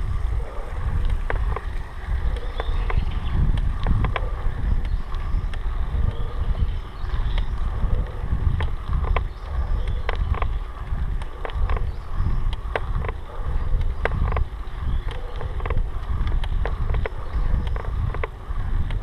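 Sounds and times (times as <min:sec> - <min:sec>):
wind buffeting microphone: 0:00.0 - 0:19.0
sharp clicks and rattles: 0:00.8 - 0:06.2, 0:07.1 - 0:19.0.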